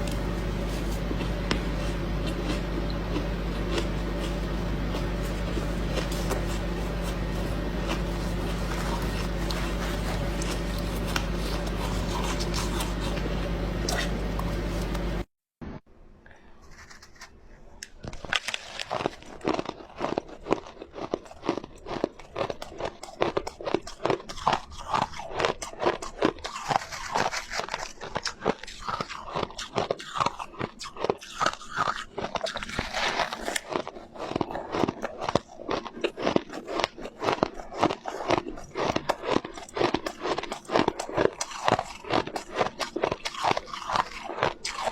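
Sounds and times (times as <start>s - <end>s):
chewing crunchy ice: 0.0s - 15.0s, 16.7s - 44.9s
steady low hum: 0.0s - 44.9s.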